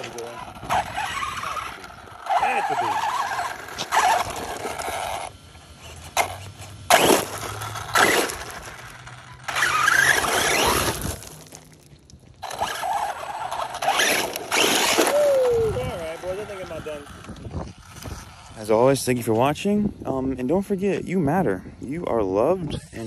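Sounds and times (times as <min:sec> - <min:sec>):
rc truck motor whining: 0:00.0 - 0:19.0
tyres scrabbling over gravel: 0:00.0 - 0:19.2.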